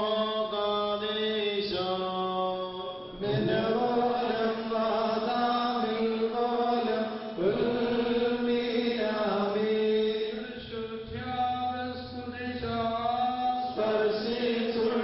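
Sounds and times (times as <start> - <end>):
voices singing slow chant: 0.0 - 15.0.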